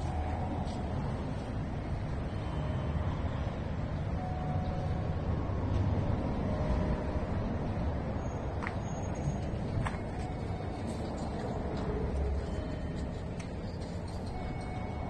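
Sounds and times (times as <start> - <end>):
traffic rumbling overhead: 0.0 - 15.0.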